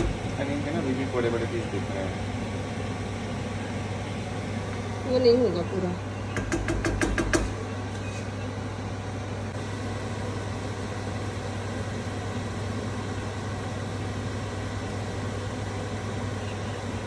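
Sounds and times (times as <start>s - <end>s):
range hood fan humming: 0.0s - 17.0s.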